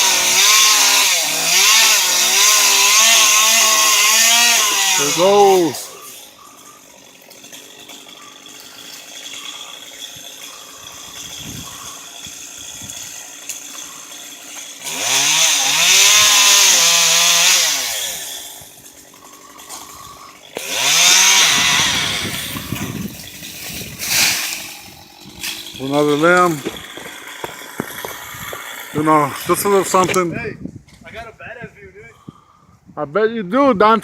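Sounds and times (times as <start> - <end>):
chainsaw revving and cutting wood: 0.0 - 30.2.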